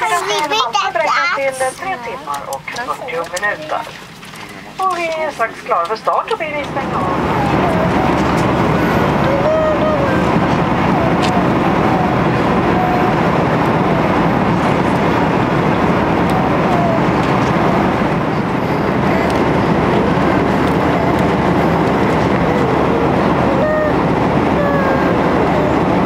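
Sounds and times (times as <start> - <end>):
airliner engines roaring in cabin: 0.0 - 26.0.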